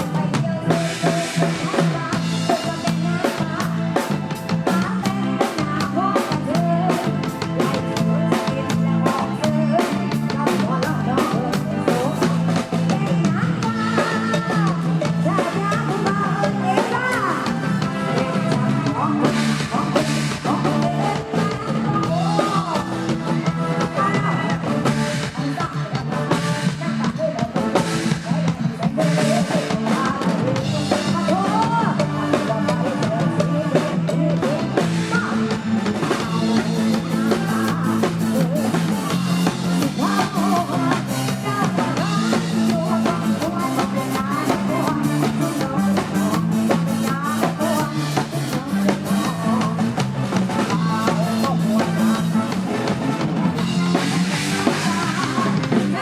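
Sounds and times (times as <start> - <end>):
bass line: 0.0 - 56.0
drum kit beat: 0.0 - 56.0
guitar: 0.0 - 56.0
person singing: 0.0 - 56.0.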